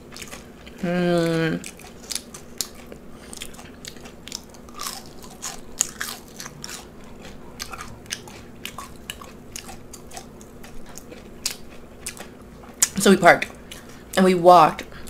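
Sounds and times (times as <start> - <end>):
person chewing crunchy food: 0.0 - 14.2.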